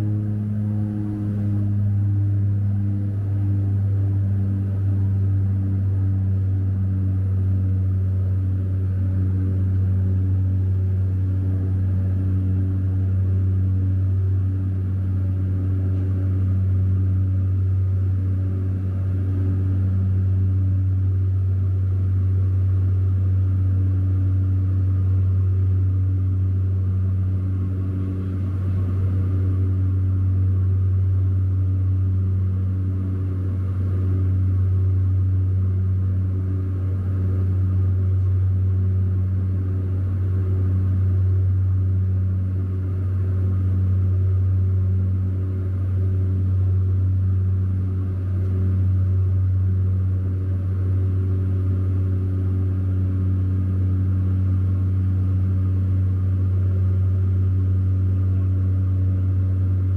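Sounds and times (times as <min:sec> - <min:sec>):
turboprop engine drone: 0:00.0 - 0:59.9.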